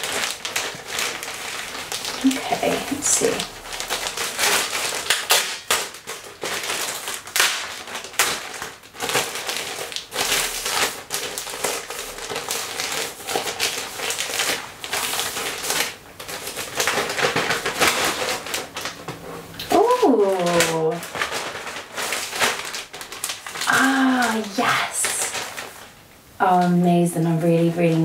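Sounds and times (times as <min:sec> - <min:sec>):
plastic mailing bag crinkling: 0:00.0 - 0:28.0.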